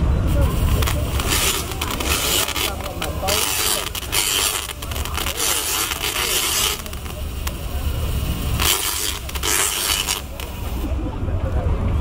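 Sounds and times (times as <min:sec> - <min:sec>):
electric arcs crackling: 0:00.3 - 0:10.9.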